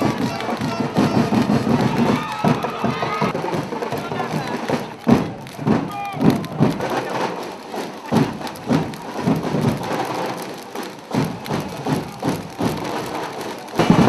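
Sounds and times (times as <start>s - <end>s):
drum beating: 0.0s - 14.0s
stadium crowd hubbub: 0.0s - 14.0s.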